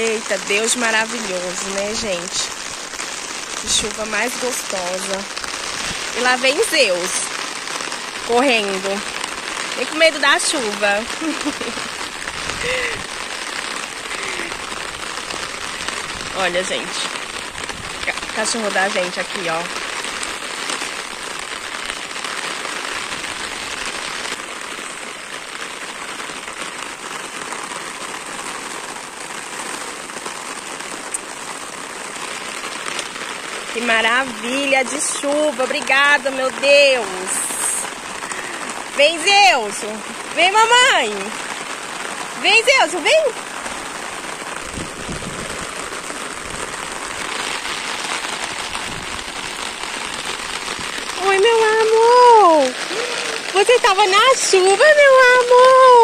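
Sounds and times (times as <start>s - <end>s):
rain falling on dirt road: 0.0s - 56.0s.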